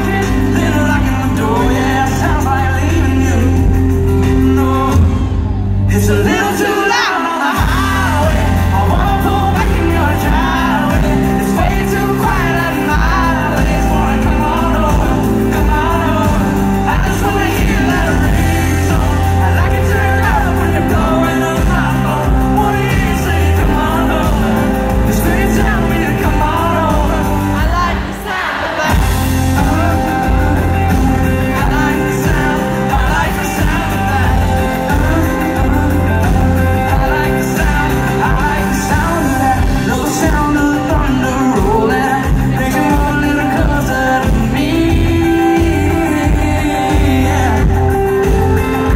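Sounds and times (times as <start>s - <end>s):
live band playing: 0.0s - 48.9s
man singing: 0.0s - 48.9s
heavy booming bass: 7.6s - 28.0s, 28.8s - 48.9s.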